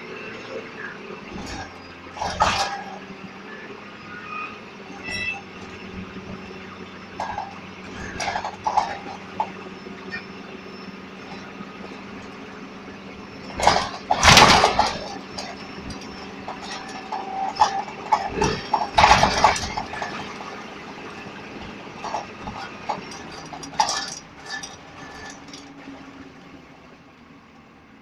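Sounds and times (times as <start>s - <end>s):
bus engine running: 0.0s - 28.0s
loud rattles and clunks: 1.2s - 3.3s, 4.8s - 26.0s.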